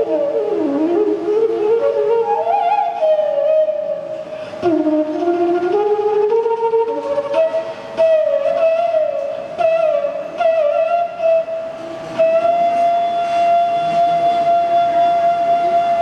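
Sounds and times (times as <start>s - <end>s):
bamboo flute melody: 0.0s - 16.0s.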